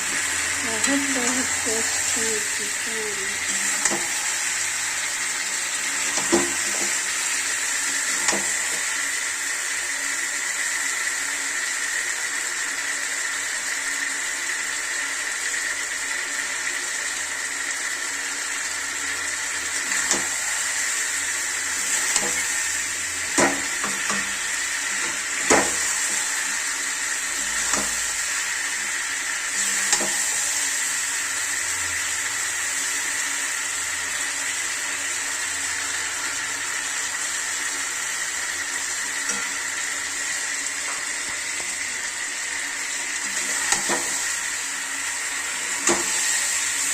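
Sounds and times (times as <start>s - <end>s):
chicken sizzling in a pan: 0.0s - 46.9s.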